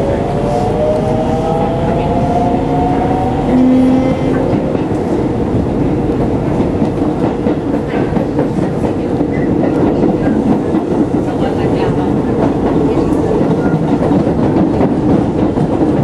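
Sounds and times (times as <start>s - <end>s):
train rumbling at speed: 0.0s - 16.0s.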